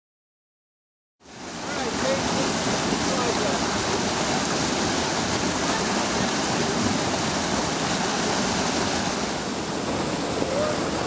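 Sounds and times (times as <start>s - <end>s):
river flowing over stones: 1.2s - 11.0s.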